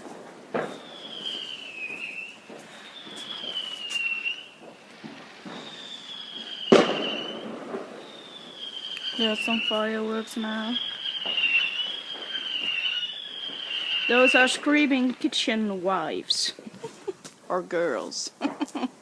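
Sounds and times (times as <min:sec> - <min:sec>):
firework bang: 0:00.0 - 0:15.3
whistling fireworks: 0:00.0 - 0:16.0.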